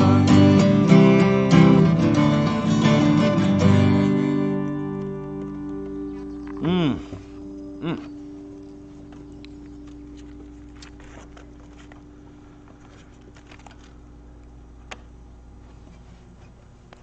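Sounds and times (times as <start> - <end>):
guitar chord ringing: 0.0 - 14.9.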